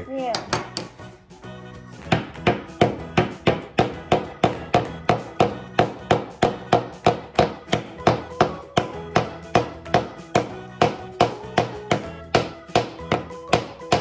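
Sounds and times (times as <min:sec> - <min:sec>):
hammer striking nail into wood: 0:00.3 - 0:01.0, 0:02.0 - 0:14.0.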